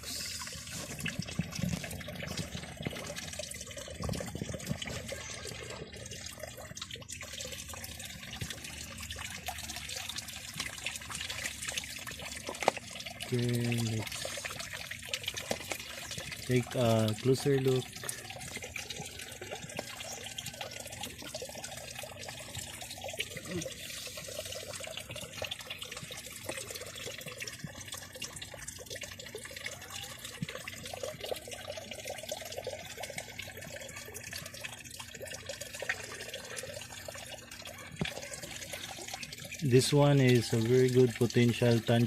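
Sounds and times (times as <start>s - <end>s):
water drips and splashes: 0.0s - 42.0s
water trickling and bubbling: 0.0s - 42.0s.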